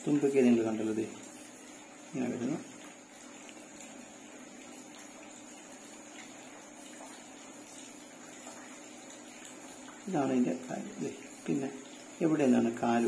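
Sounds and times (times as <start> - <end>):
room tone hiss and hum: 0.0 - 13.0.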